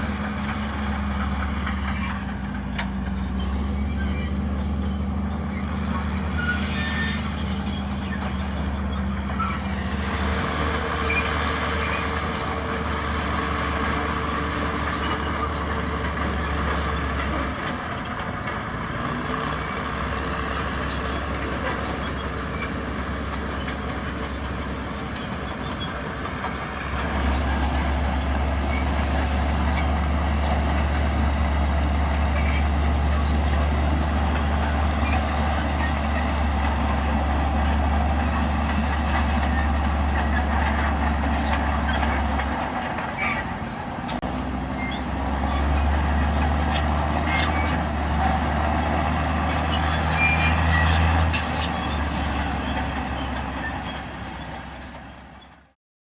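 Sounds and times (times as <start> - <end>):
diesel machinery engine drone: 0.0 - 55.8.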